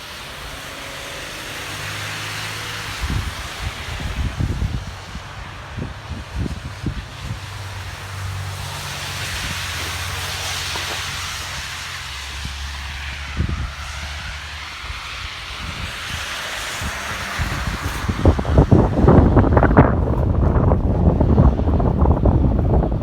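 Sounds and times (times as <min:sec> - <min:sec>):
wind blowing: 0:00.0 - 0:23.0
wind buffeting microphone: 0:00.4 - 0:23.0.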